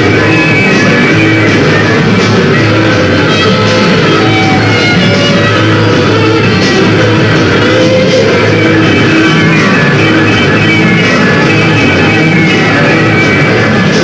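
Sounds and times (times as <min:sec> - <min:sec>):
rock band playing instrumental: 0:00.0 - 0:14.0.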